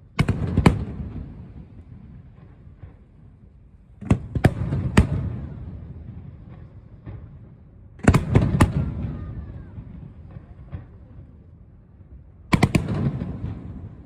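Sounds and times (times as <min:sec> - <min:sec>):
fireworks bangs: 0:00.1 - 0:11.5, 0:12.5 - 0:14.0.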